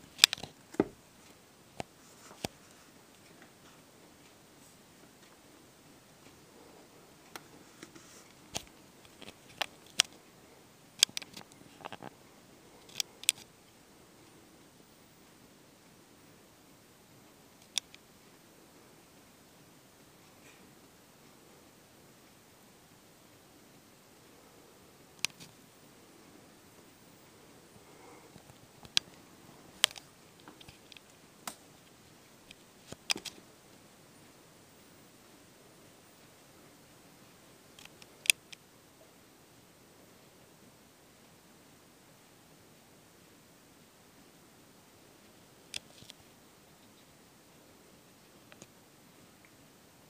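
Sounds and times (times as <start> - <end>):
faint steady hiss: 0.0 - 50.0.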